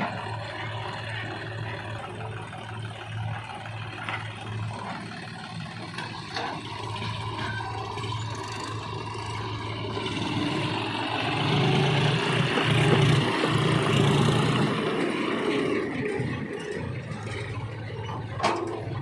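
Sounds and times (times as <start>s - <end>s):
diesel engine of backhoe loader: 0.0s - 19.0s.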